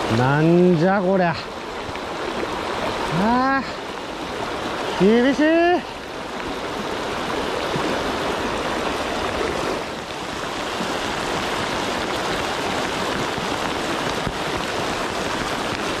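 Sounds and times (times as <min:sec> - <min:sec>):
heavy rain hitting water: 0:00.0 - 0:16.0
river current running: 0:00.0 - 0:16.0.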